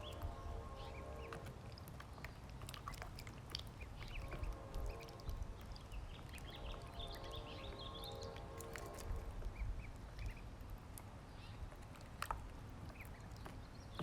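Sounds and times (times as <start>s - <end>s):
ducklings peeping: 0.0s - 14.0s
low steady rumble: 0.0s - 14.0s.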